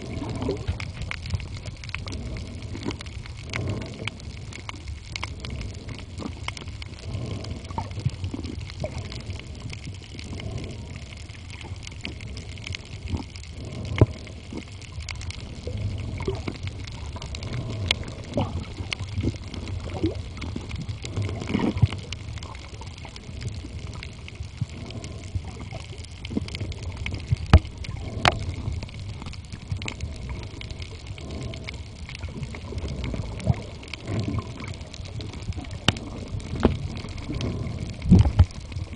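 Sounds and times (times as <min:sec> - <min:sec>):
sharp clicks and crackles: 0:00.0 - 0:38.9
underwater rumble of moving water: 0:00.0 - 0:38.9.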